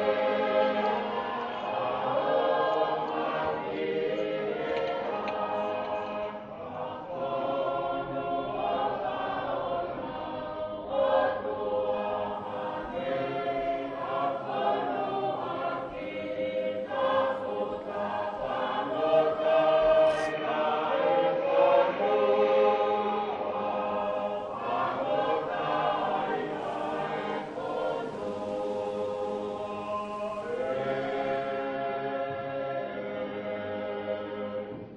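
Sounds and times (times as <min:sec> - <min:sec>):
choir singing: 0:00.0 - 0:34.9.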